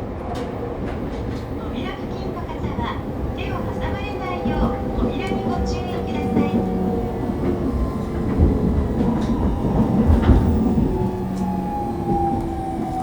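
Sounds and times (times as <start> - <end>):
wheels rumbling on rail: 0.0 - 13.0
train motor and inverter tones: 1.7 - 13.0.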